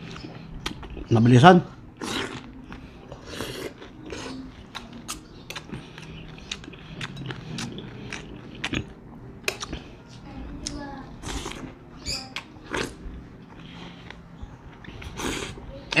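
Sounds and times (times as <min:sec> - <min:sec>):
person chewing: 0:00.0 - 0:01.1, 0:02.0 - 0:16.0.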